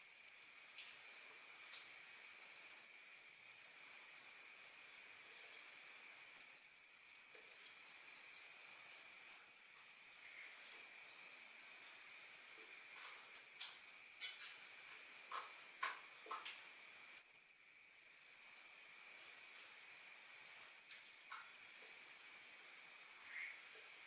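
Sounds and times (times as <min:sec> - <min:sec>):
high insect trill: 0:00.0 - 0:24.0.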